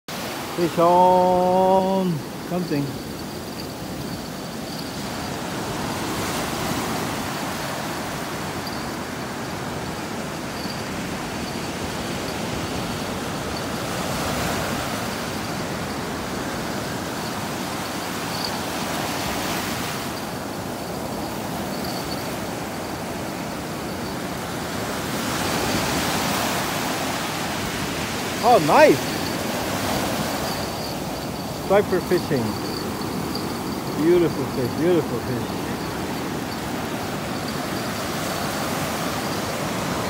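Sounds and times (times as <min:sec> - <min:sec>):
surf washing up a beach: 0:00.1 - 0:40.0.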